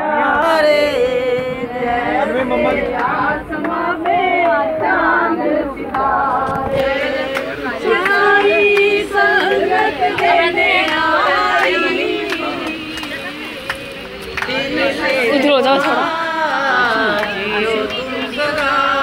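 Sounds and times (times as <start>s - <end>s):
women singing in chorus: 0.0s - 19.0s.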